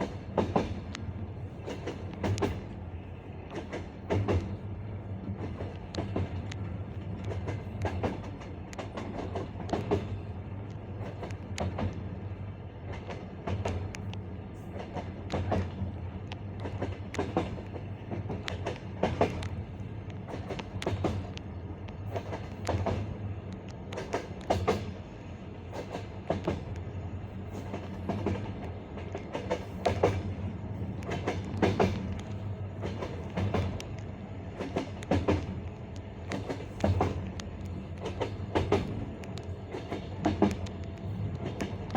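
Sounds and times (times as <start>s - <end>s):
low rumble of moving train: 0.0s - 41.9s
train wheels clickety-clack: 0.0s - 41.9s.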